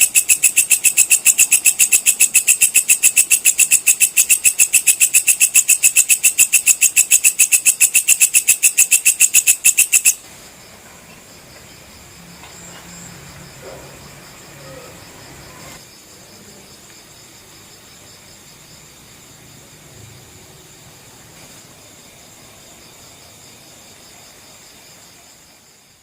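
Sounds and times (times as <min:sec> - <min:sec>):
insect pulsing chirr: 0:00.0 - 0:26.0.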